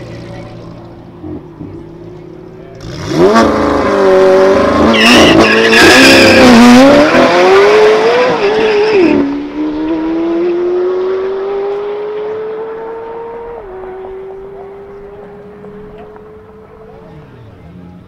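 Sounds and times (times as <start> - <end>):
sports car engine at full throttle: 0.0 - 18.0.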